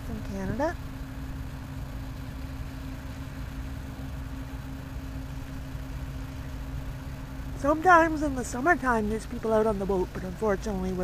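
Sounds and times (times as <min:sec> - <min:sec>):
ship engine rumble: 0:00.0 - 0:11.0.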